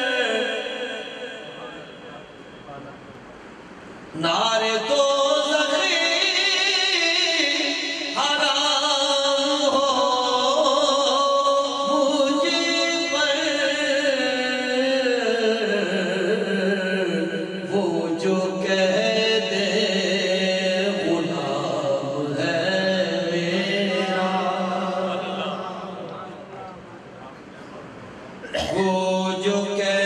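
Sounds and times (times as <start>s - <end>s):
man singing into a microphone: 0.0s - 2.0s, 4.1s - 26.7s, 28.5s - 30.0s.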